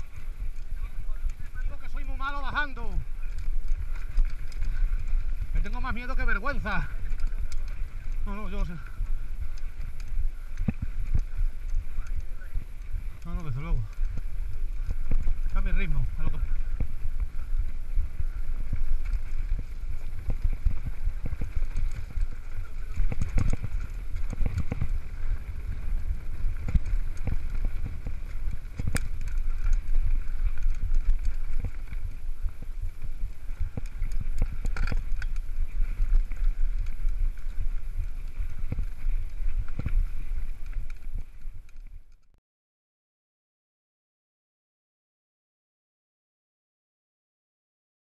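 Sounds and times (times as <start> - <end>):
wind buffeting microphone: 0.0 - 42.2
bike rattling over bumps: 0.0 - 42.4.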